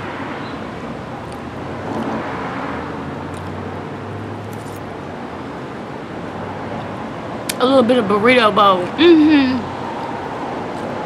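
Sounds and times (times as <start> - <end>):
road traffic noise: 0.0 - 11.0
vehicle engine passing: 0.0 - 11.0.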